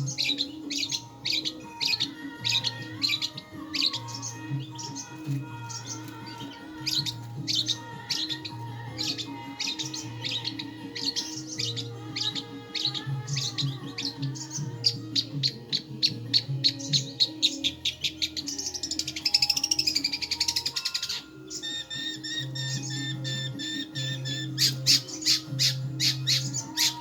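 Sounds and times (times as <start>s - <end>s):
background music with low notes: 0.0s - 27.0s
bird chirping and chattering: 0.0s - 27.0s.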